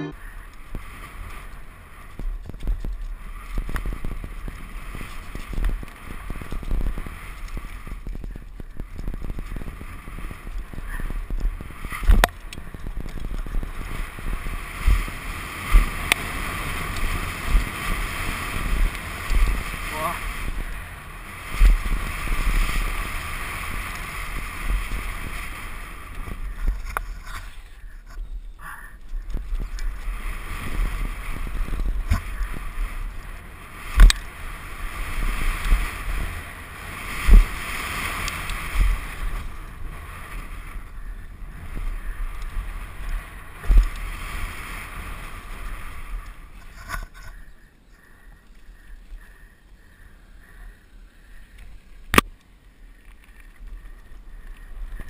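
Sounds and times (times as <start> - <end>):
wind and tyre rush on dirt: 0.2 - 55.0.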